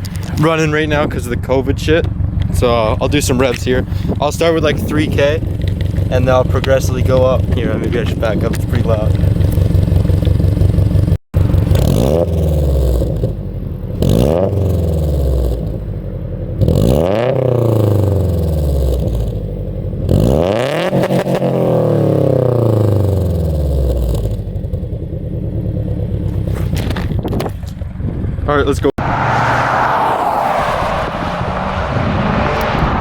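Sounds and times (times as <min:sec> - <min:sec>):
car engine revving: 0:00.0 - 0:16.0, 0:16.6 - 0:26.9, 0:29.0 - 0:33.0.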